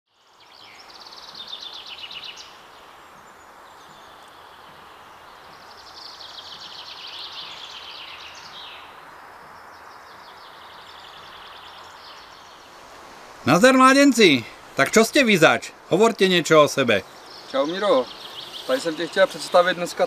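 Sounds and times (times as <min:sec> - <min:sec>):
songbird singing trills: 0:00.1 - 0:12.8, 0:13.6 - 0:20.0
steady background hiss: 0:00.1 - 0:20.0.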